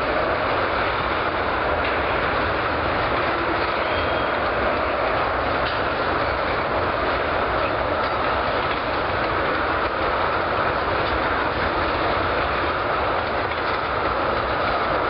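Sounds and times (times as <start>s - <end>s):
faint clicks of rail joints: 0.0s - 15.0s
steel wheels on rails: 0.0s - 15.0s.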